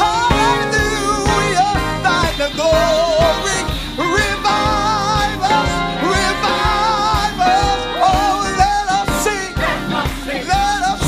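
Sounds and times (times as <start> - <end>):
drum beat: 0.0 - 11.0
gospel choir singing: 0.0 - 11.0.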